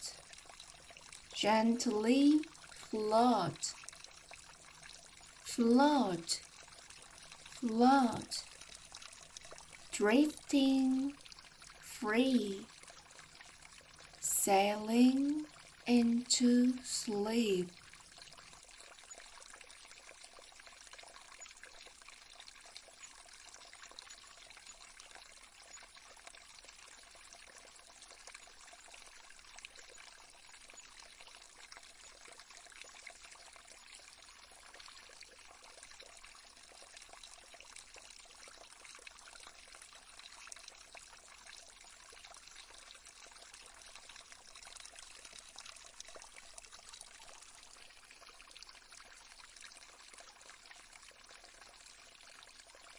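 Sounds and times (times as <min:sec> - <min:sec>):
water trickling: 0:00.1 - 0:52.9.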